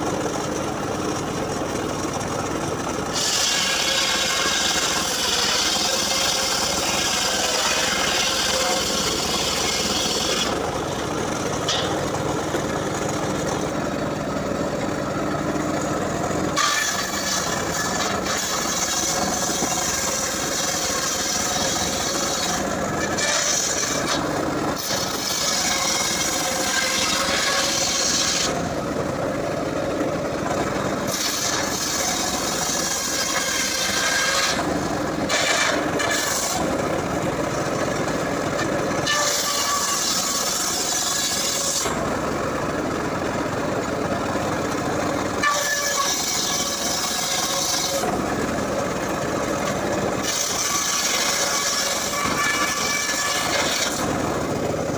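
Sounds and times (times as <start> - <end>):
circular saw rasping through wood: 0.0 - 29.5, 30.4 - 54.9.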